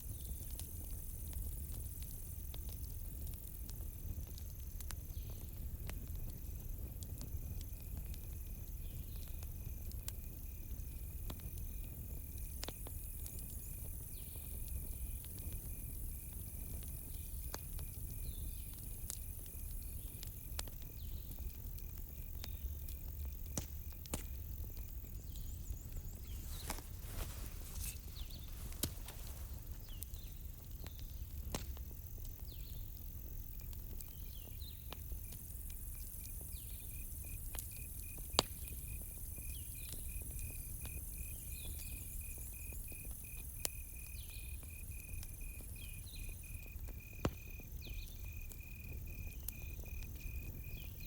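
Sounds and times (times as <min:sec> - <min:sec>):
campfire crackling and popping: 0:00.0 - 0:51.0
crickets trilling: 0:06.8 - 0:51.0.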